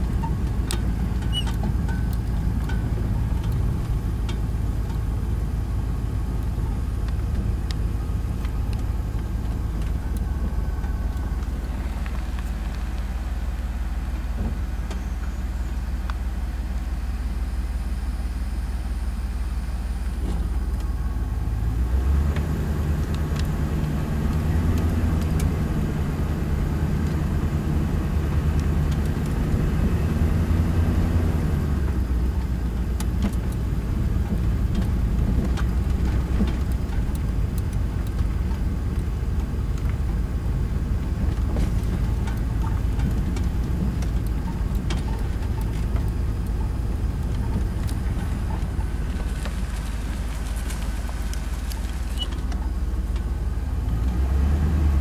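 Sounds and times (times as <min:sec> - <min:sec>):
light ticks and rattles: 0:00.0 - 0:15.4, 0:21.9 - 0:54.2
low engine drone: 0:00.0 - 0:55.0.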